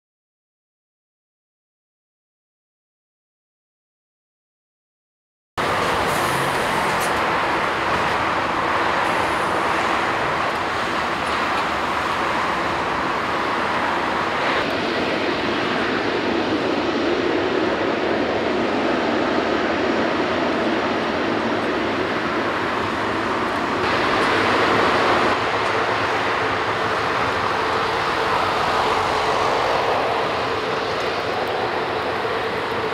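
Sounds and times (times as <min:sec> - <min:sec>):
jet engines at taxi thrust: 0:05.6 - 0:32.9.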